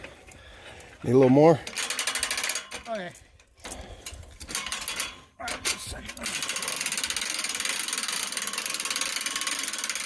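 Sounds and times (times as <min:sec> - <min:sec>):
winch ratcheting clatter: 0:01.0 - 0:10.0
winch clicks: 0:01.6 - 0:10.0.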